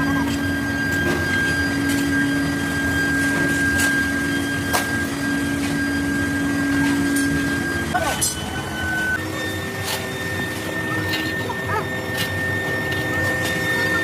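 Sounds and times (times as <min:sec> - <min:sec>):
machine tool hum and whine: 0:00.0 - 0:14.0.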